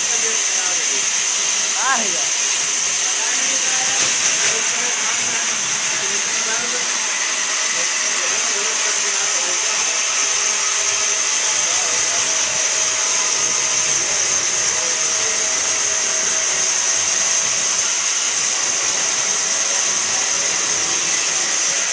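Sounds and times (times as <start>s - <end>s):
band saw cutting wood: 0.0s - 21.9s.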